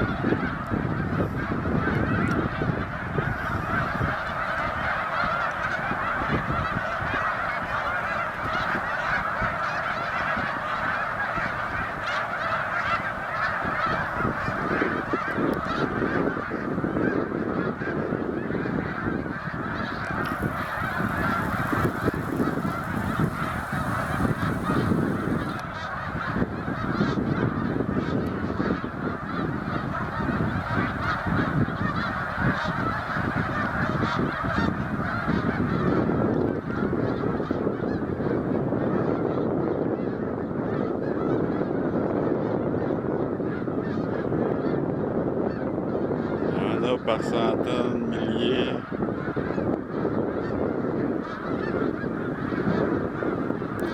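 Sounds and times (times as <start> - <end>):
flock of geese honking: 0.0 - 53.9.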